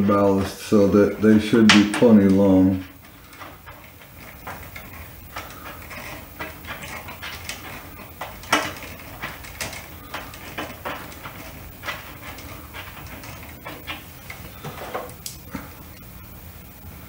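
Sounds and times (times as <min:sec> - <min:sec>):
wires rustling: 0:00.0 - 0:17.0.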